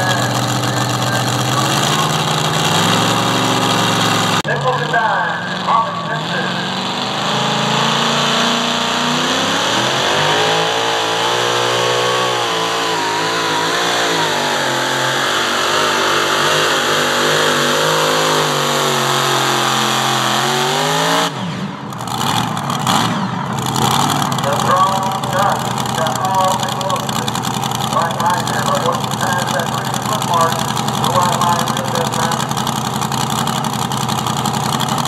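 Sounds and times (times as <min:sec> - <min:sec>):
supercharged engine revving: 0:00.0 - 0:35.0.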